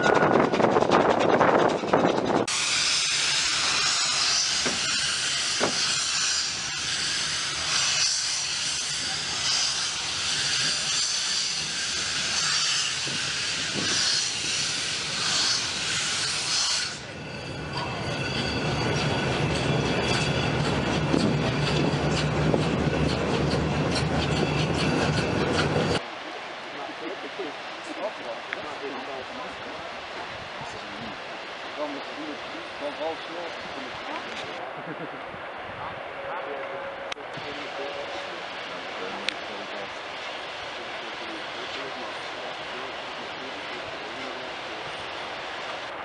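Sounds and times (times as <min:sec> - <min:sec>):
steam locomotive hissing steam: 0:00.0 - 0:31.2, 0:36.7 - 0:46.0
train coach rumbling: 0:00.0 - 0:46.0.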